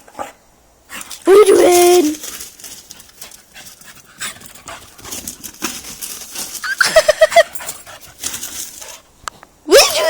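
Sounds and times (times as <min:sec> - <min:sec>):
rustling: 0:00.9 - 0:09.6.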